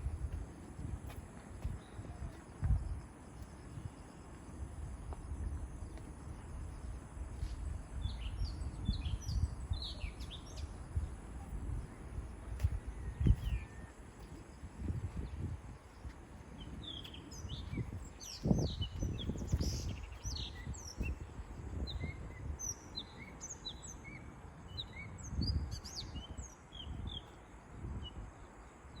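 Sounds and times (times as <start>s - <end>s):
small birds chirping: 0.3s - 29.0s.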